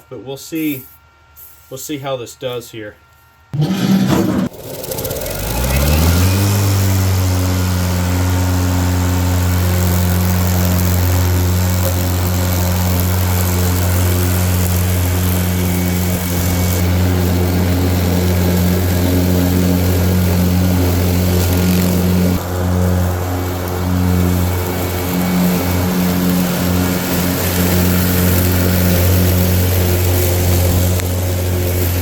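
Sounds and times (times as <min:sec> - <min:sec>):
riding mower running: 0:03.6 - 0:32.0.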